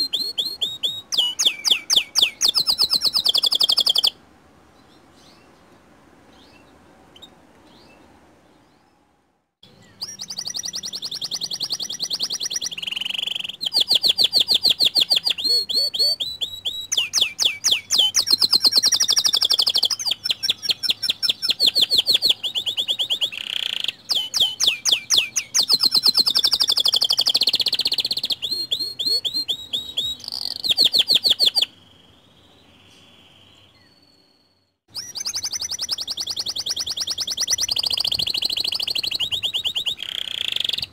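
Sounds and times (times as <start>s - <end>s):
canary singing trills: 0.0s - 4.2s, 9.6s - 40.9s.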